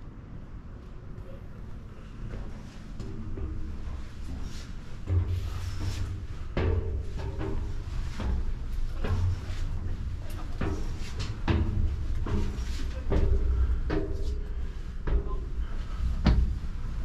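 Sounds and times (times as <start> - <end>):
footsteps on steel stairs: 2.2 - 17.0.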